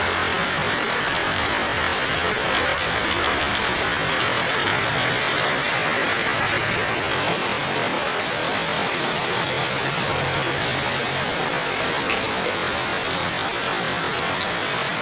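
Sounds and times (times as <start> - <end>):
rain on leaves and pavement: 0.0 - 15.0.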